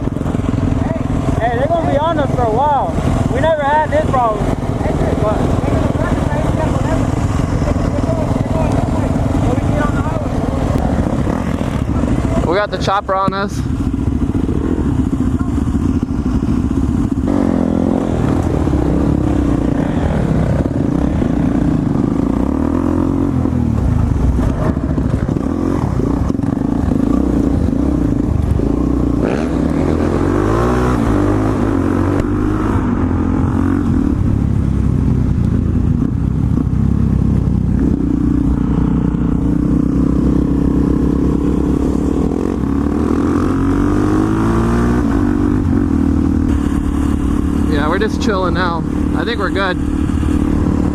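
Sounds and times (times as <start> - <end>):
dirt bike engine revving: 0.0 - 35.0, 35.6 - 50.9.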